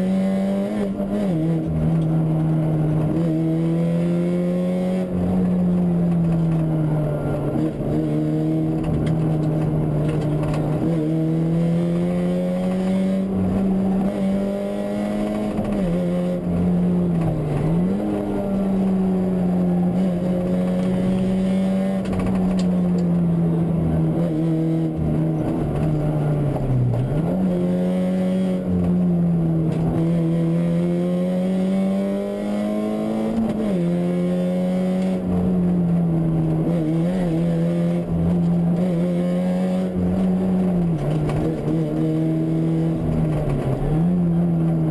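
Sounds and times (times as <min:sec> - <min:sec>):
rally car engine revving: 0:00.0 - 0:44.9.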